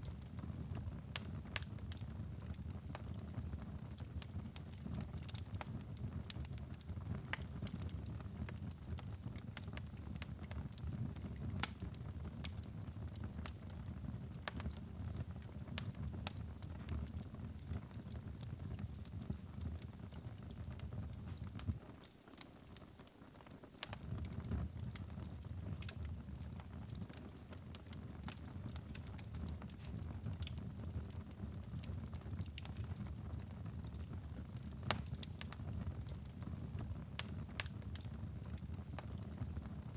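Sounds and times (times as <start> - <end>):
low rumble of flames: 0.0 - 21.8, 23.8 - 39.9
fire crackling and popping: 0.0 - 39.9.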